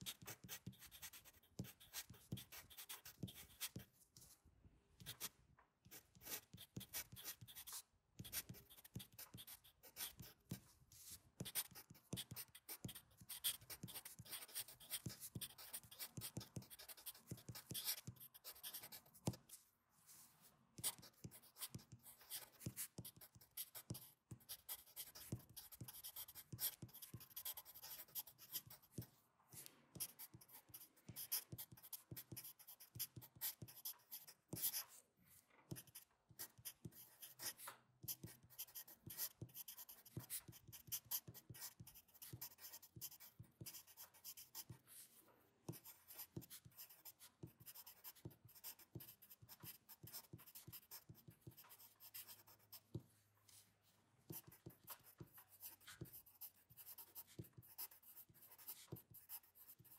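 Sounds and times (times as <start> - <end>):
pen scratching on paper: 0.0 - 4.4, 5.0 - 5.3, 5.9 - 35.0, 35.7 - 53.6, 54.3 - 59.9.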